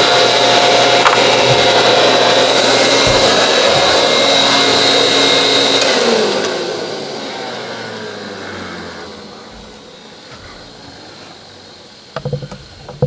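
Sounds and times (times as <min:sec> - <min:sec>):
motor winding down: 0:00.0 - 0:13.0
vacuum cleaner whining: 0:00.0 - 0:13.0.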